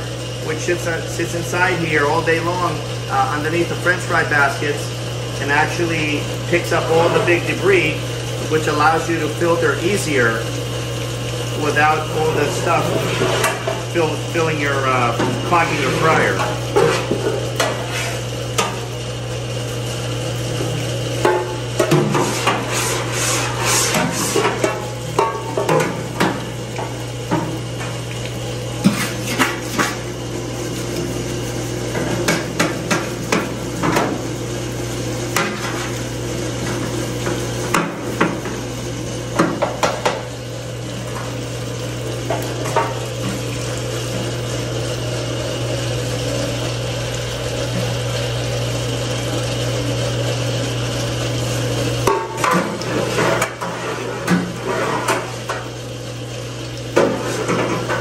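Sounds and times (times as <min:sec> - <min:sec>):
pump humming: 0:00.0 - 0:58.0.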